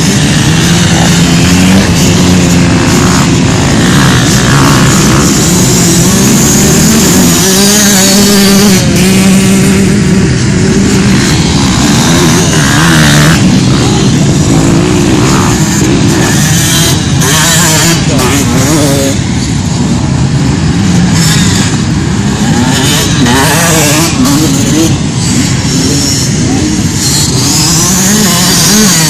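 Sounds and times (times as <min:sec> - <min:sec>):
off-road motorcycle engines revving: 0:00.0 - 0:29.0.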